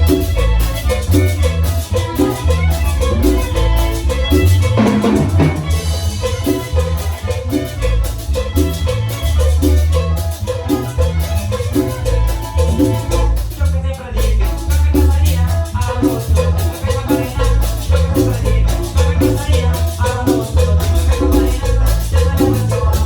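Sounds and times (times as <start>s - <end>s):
bass line: 0.0s - 23.0s
cumbia band with violins: 0.0s - 23.0s
percussion beat: 0.0s - 23.0s.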